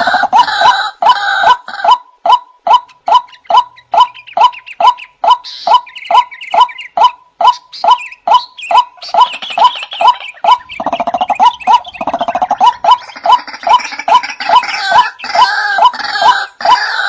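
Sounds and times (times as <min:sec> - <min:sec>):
waterhen calling wak notes: 0:00.0 - 0:17.0.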